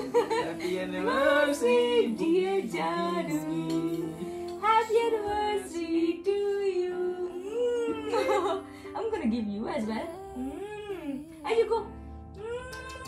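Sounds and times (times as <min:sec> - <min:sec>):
song accompaniment: 0:00.0 - 0:10.6, 0:11.4 - 0:13.0
woman singing: 0:00.7 - 0:13.0.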